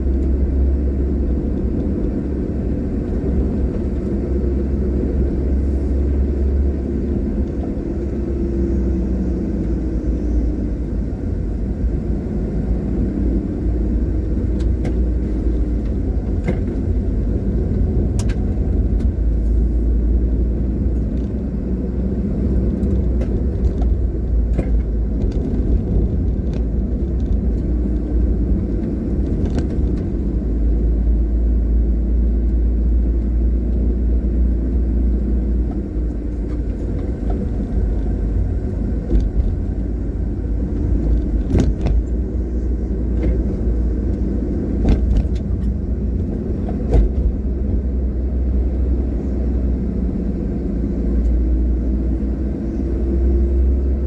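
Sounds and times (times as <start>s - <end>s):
vehicle driving on rough road: 0.0s - 54.0s.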